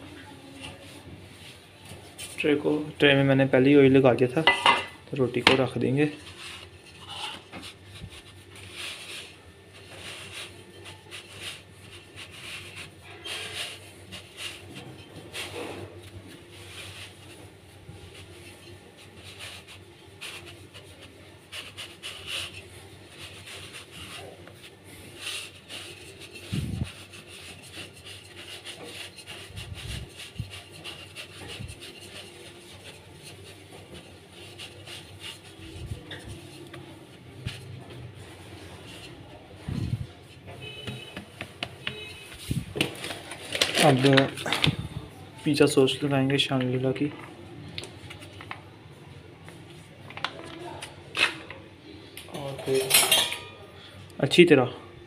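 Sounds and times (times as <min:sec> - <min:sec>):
hand rubbing and patting dough: 0:00.1 - 0:50.9.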